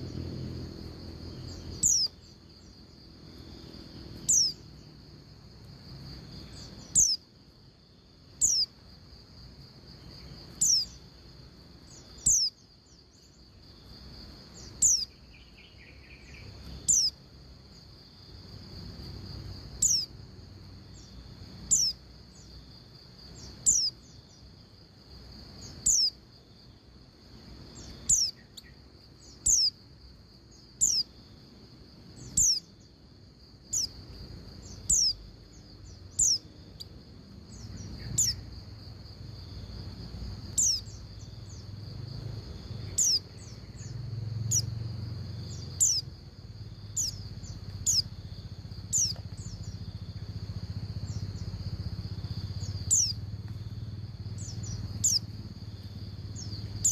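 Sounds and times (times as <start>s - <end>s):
faint high-pitched hum: 0.0s - 56.9s.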